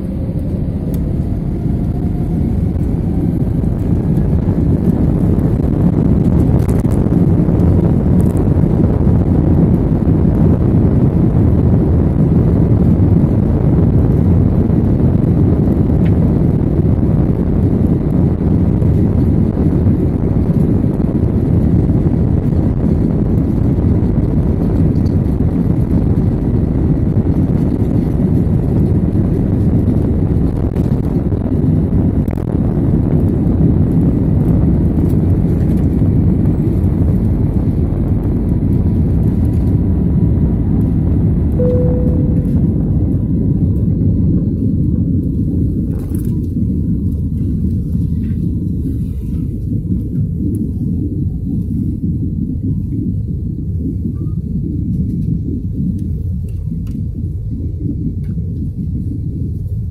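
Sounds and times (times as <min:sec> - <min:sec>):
jet engines rumbling in cabin: 0:00.0 - 0:59.9.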